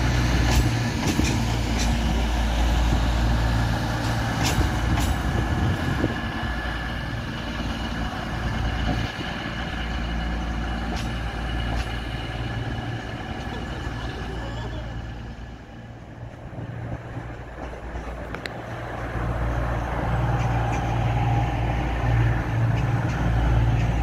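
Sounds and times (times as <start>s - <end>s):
diesel train engine droning: 0.0s - 24.0s.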